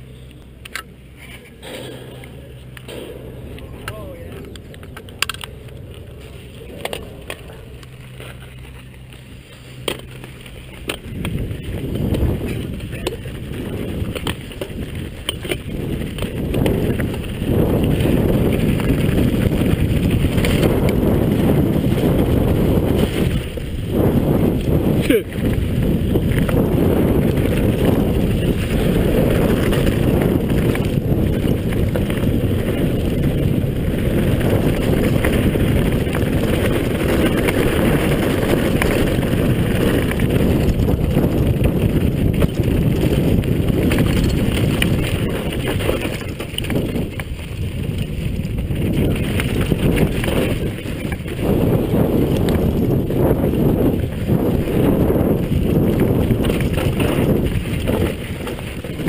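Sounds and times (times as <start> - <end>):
bike tyres rattling on gravel: 0.0 - 59.0
wind buffeting microphone: 0.0 - 59.0.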